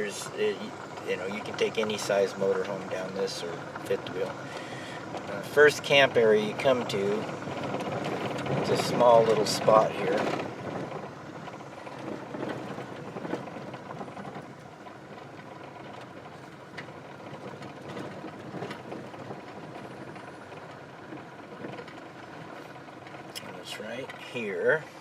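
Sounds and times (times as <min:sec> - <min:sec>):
light clicks and rattles: 0:00.0 - 0:24.9
engine and road noise: 0:00.0 - 0:25.0.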